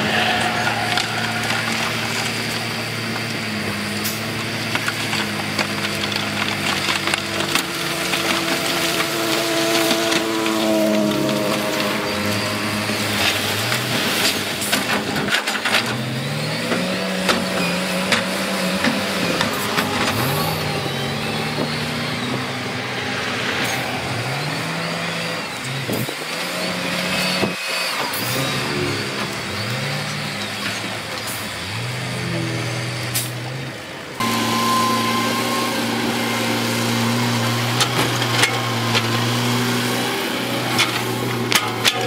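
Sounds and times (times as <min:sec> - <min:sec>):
heavy machinery diesel engine revving: 0:00.0 - 0:42.0.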